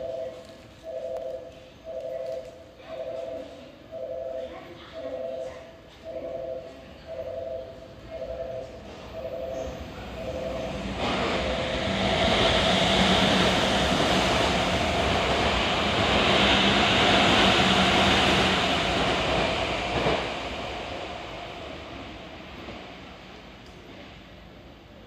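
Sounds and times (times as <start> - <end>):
train wheels humming on rails: 0.0 - 25.0.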